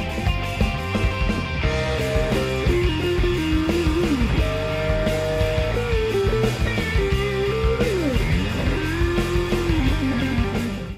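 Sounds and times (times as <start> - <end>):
lead guitar melody: 0.0 - 10.9
steady beat: 0.0 - 10.9.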